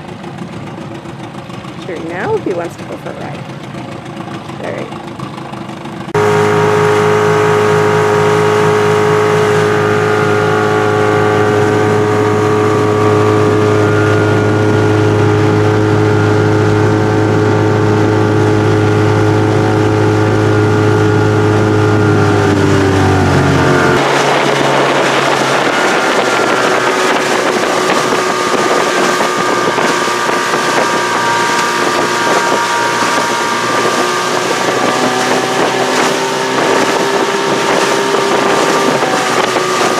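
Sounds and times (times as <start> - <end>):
outboard motor running: 0.0 - 39.9
rush of wind and water: 0.0 - 39.9.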